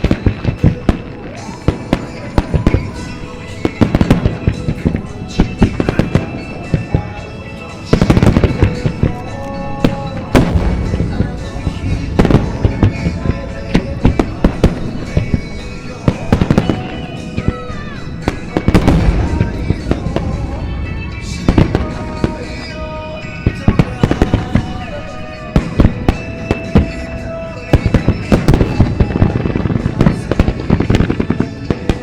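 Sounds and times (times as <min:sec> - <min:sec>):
fireworks bangs and crackles: 0:00.0 - 0:32.0
music playing: 0:00.0 - 0:32.0.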